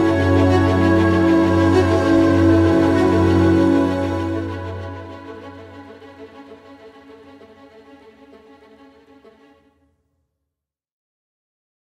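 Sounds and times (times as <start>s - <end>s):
background music with held notes: 0.0s - 9.8s.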